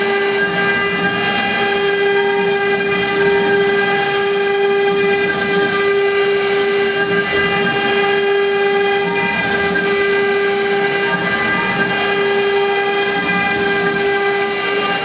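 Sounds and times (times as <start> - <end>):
router spindle whine: 0.0 - 15.0.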